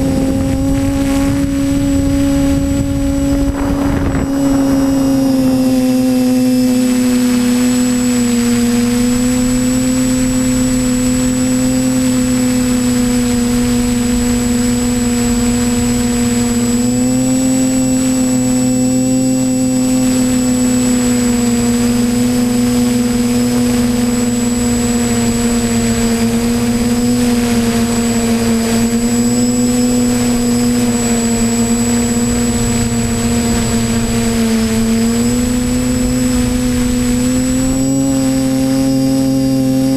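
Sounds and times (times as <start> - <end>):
quadcopter motors humming: 0.0 - 39.9.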